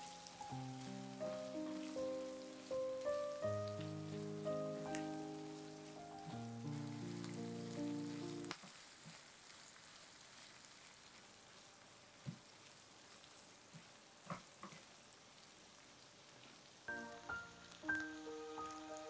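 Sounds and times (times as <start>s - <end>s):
shrimp sizzling in a frying pan: 0.0s - 19.0s.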